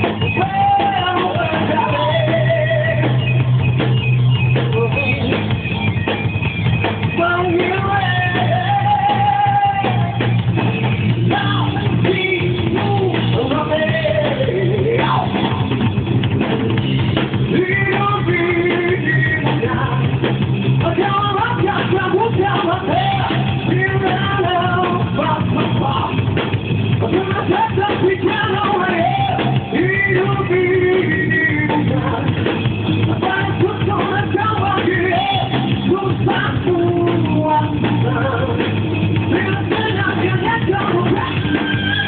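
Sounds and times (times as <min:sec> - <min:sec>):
person singing: 0:00.0 - 0:03.5, 0:07.1 - 0:10.3, 0:11.3 - 0:15.6, 0:17.5 - 0:20.2, 0:20.8 - 0:26.3, 0:27.0 - 0:42.0
drum kit: 0:00.0 - 0:42.0
electric guitar: 0:00.0 - 0:42.0.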